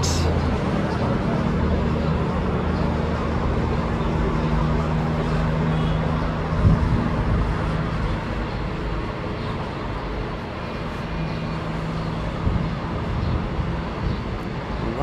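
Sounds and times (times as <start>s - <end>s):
low engine hum: 0.0s - 15.0s
road traffic: 0.0s - 15.0s.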